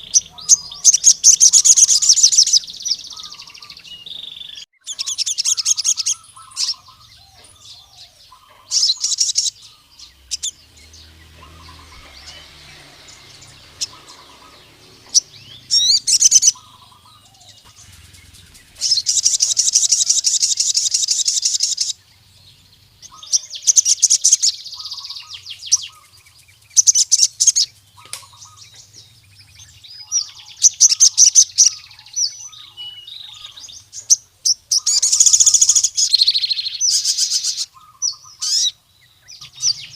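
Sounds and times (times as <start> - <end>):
sunbird chirping trills: 0.0 - 39.9.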